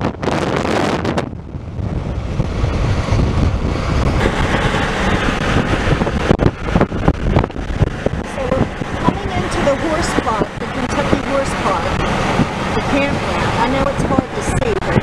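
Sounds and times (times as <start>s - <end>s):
road noise from moving vehicle: 0.0s - 15.0s
wind buffeting microphone: 0.0s - 15.0s.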